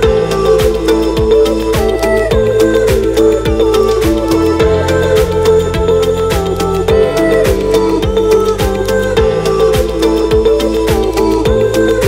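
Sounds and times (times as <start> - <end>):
music with low drum beat: 0.0 - 12.0.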